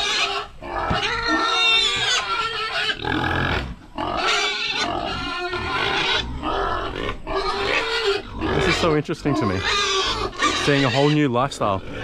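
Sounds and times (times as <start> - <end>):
pigs squealing and grunting: 0.0 - 12.0.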